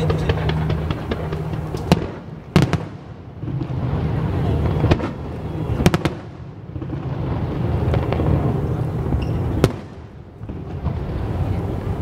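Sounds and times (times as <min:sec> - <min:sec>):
firework booms and rumble: 0:00.0 - 0:12.0
sharp firework crack: 0:00.0 - 0:12.0.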